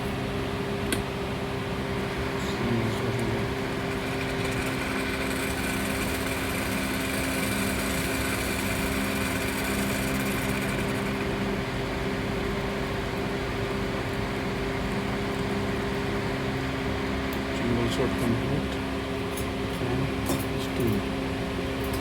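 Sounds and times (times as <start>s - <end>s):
espresso machine pump humming: 0.8s - 18.9s.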